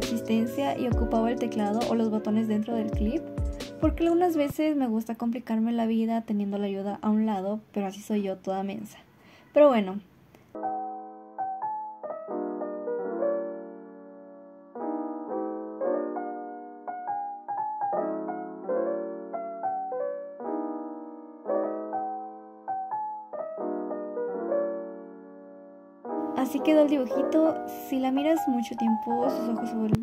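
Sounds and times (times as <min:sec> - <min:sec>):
gentle piano music: 0:00.0 - 0:08.4, 0:10.5 - 0:30.0.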